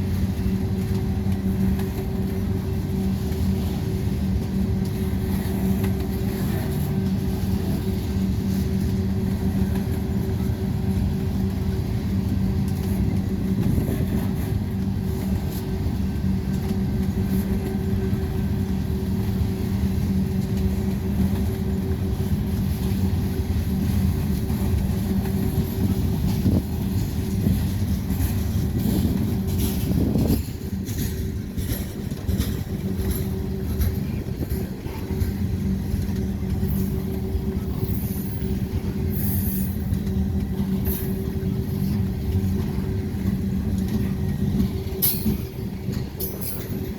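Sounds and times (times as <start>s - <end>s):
freight train rumbling past: 0.0s - 46.9s
rail clicks: 0.0s - 46.9s.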